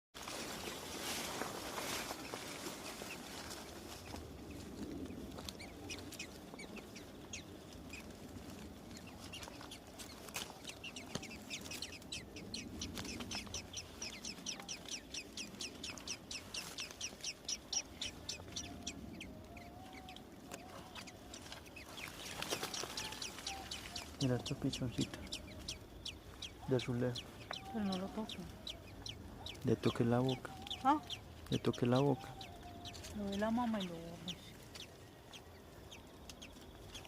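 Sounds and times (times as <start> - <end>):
small birds chirping: 0.3 - 37.0.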